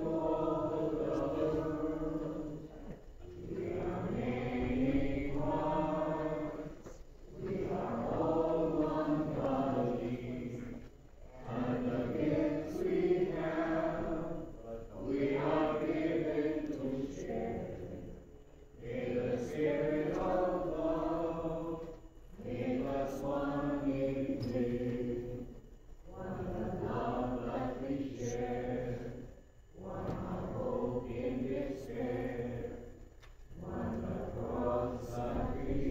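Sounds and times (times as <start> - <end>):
congregation singing a hymn: 0.0 - 35.9.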